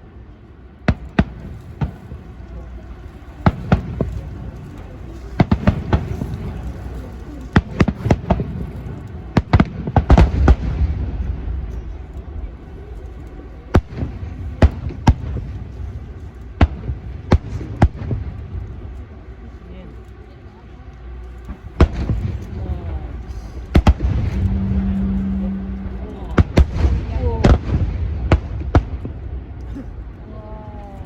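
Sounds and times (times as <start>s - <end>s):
low rumble: 0.0s - 31.0s
fireworks bangs: 0.9s - 19.1s, 21.5s - 29.6s.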